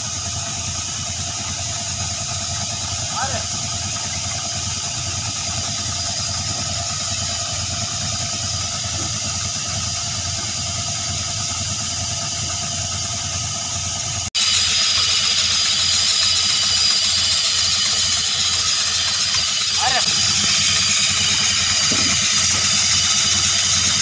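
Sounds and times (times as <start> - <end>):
tractor engine running compressor: 0.0 - 24.0
air hiss: 4.6 - 24.0.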